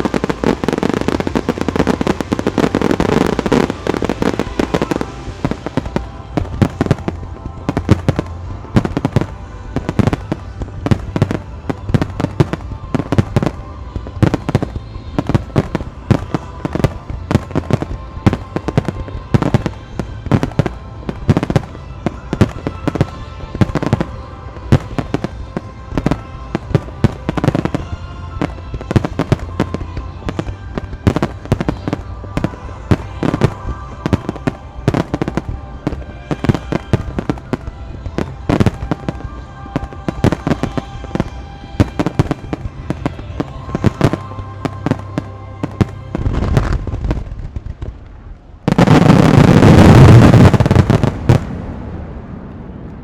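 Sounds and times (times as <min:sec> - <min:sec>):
music playing: 0:00.0 - 0:52.0
fireworks bursts and crackles: 0:00.0 - 0:53.0.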